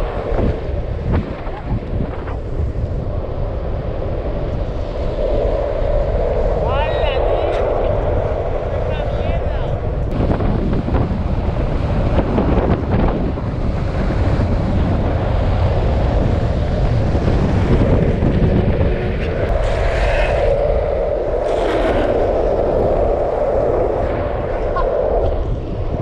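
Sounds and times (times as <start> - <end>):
longboard wheels rolling on asphalt: 0.0 - 26.0
wind on microphone: 0.0 - 26.0.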